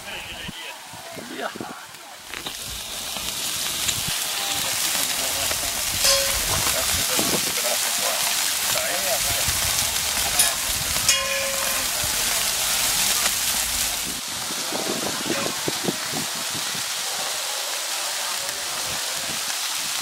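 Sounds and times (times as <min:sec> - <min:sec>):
chicken sizzling on a grill: 0:00.0 - 0:20.0.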